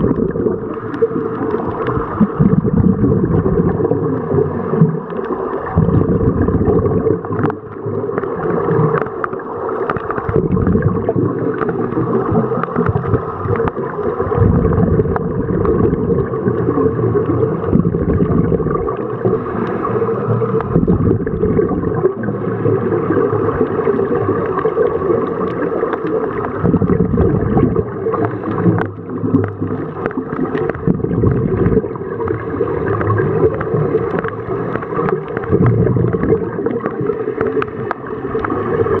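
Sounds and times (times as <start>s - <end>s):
regulator bubbles gurgling: 0.0s - 39.0s
underwater low rumble: 0.0s - 39.0s.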